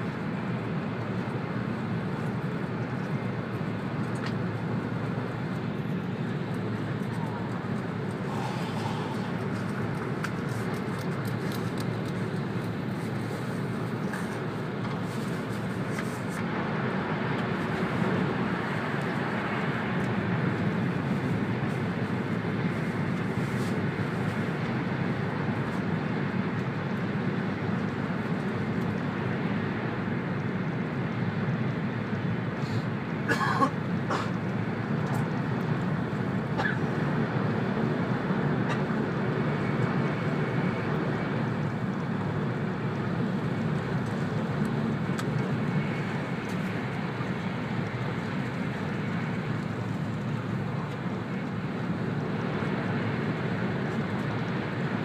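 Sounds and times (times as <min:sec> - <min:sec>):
train wheels and air rumble: 0:00.0 - 0:55.0.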